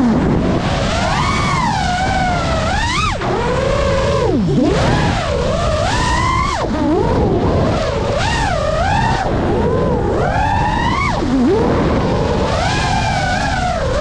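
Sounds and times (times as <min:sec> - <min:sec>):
quadcopter motors whining: 0:00.0 - 0:14.0
wind rush: 0:00.0 - 0:14.0.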